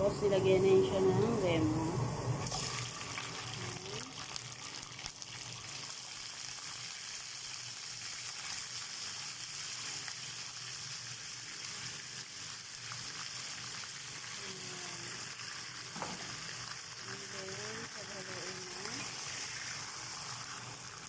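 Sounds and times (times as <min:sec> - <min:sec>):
chicken frying in oil: 0:02.4 - 0:21.0.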